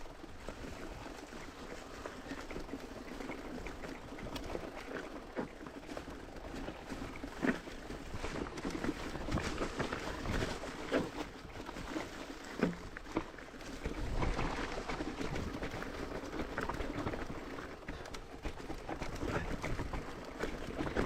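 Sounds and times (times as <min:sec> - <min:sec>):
bike rattling clicks and knocks: 0:00.0 - 0:21.0
bike tyres rumbling on dirt: 0:00.0 - 0:21.0.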